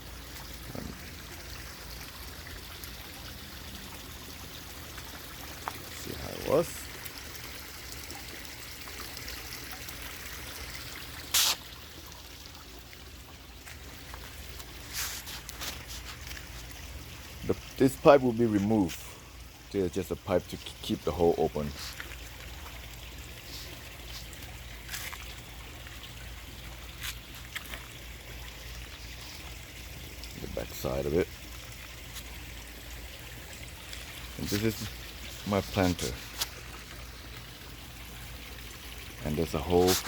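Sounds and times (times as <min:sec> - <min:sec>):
water trickling: 0:00.0 - 0:40.0.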